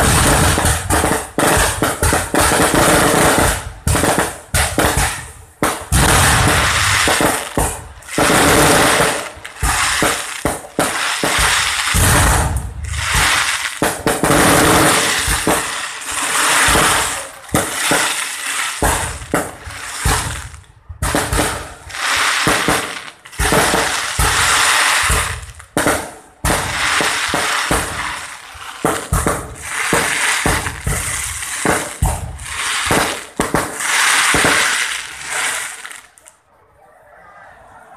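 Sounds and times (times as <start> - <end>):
fireworks crackle: 0.0 - 36.4
fireworks shells bursting: 0.0 - 36.4.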